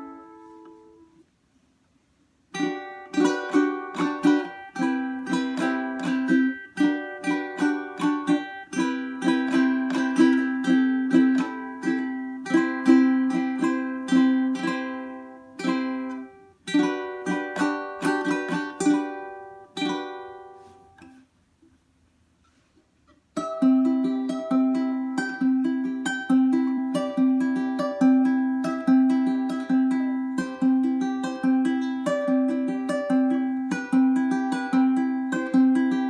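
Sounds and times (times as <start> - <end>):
ukulele plucked and strummed: 0.0 - 1.4, 2.4 - 21.3, 22.5 - 36.0.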